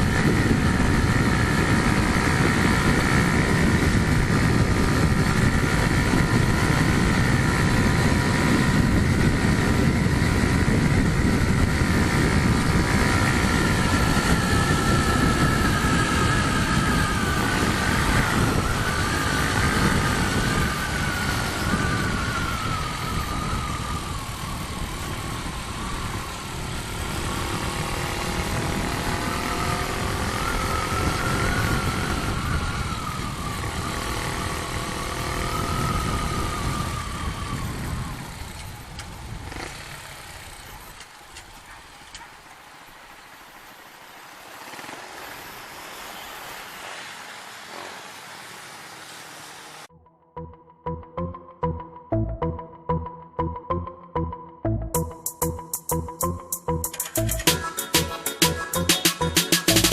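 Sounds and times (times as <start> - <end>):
vehicle engine running: 0.0 - 42.8, 43.4 - 59.9.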